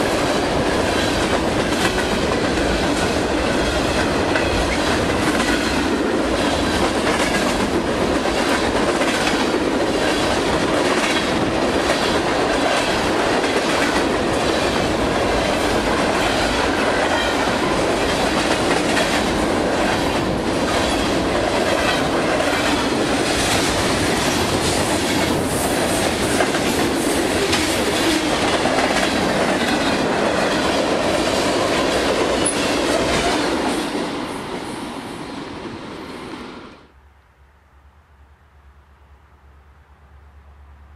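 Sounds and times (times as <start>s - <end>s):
freight train wheels clattering: 0.0s - 34.0s.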